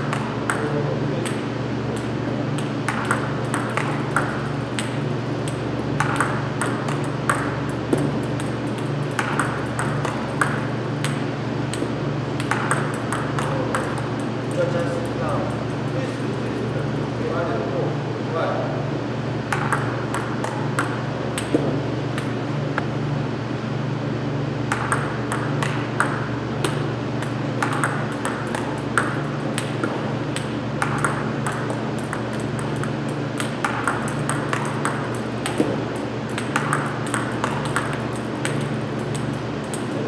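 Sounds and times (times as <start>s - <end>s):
table tennis balls clicking: 0.0s - 16.2s, 19.5s - 22.3s, 24.7s - 40.0s
steady low hum: 0.0s - 40.0s.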